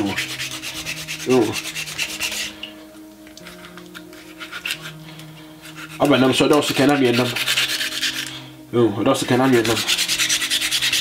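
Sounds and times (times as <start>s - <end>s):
knife scraping fish scales: 0.0s - 2.8s, 3.4s - 8.5s, 9.2s - 11.0s.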